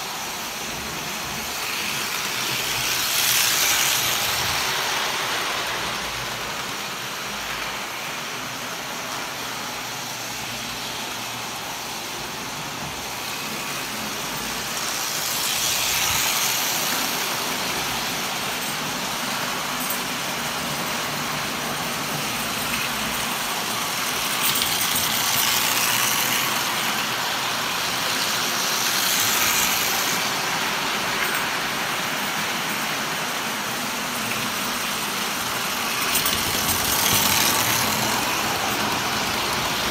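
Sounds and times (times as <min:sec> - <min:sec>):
toy train motor hum: 0:00.0 - 0:39.9
toy trains clattering on track: 0:00.0 - 0:39.9.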